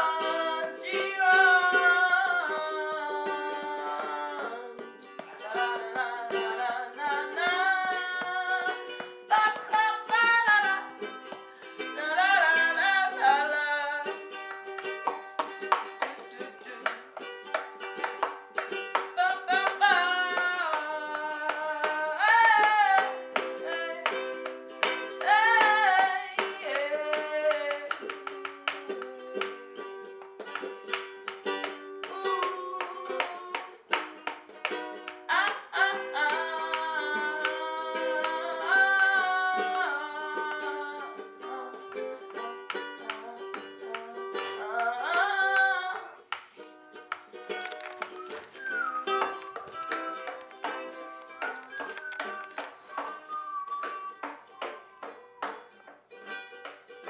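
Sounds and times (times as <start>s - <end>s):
person singing: 0.0s - 30.8s, 31.9s - 34.0s, 35.2s - 46.3s, 47.4s - 57.0s
strummed string instrument: 0.0s - 57.0s.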